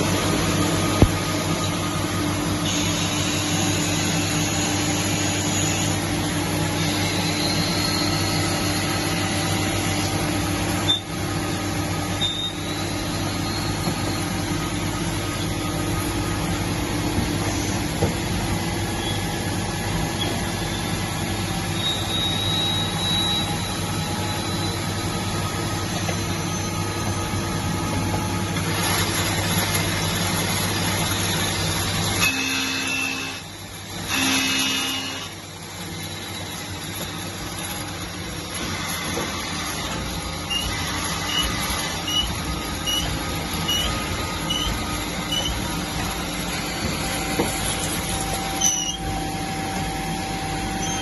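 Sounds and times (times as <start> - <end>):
lathe machine hum: 0.0 - 51.0.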